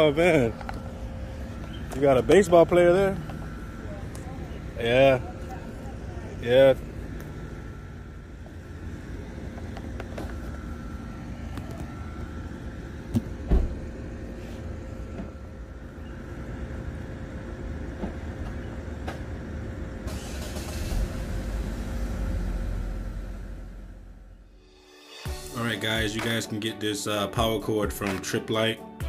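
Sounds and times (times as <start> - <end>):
vehicle engine rumbling: 0.0 - 24.6.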